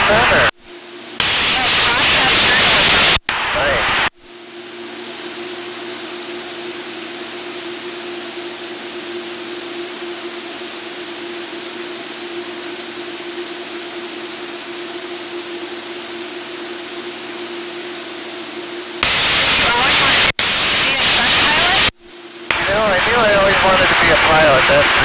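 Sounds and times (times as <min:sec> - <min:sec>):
plane engine and propeller drone: 0:00.0 - 0:25.0.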